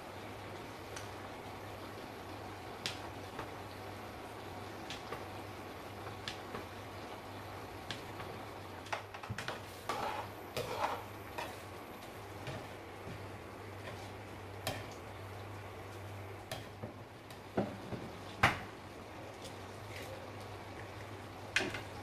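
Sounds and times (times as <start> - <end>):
cooktop humming: 0.0 - 22.0.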